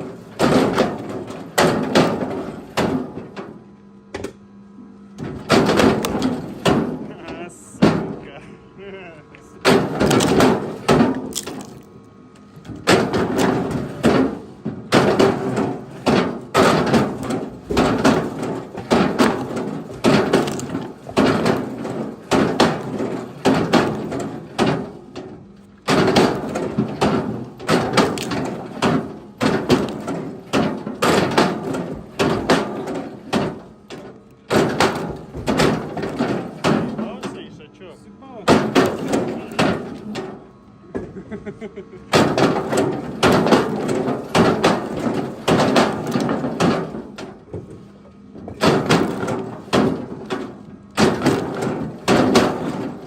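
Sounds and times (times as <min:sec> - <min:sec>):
firewood clattering onto pile: 0:00.0 - 0:03.6, 0:05.2 - 0:08.2, 0:09.7 - 0:11.9, 0:12.7 - 0:37.5, 0:38.5 - 0:40.4, 0:42.1 - 0:53.0.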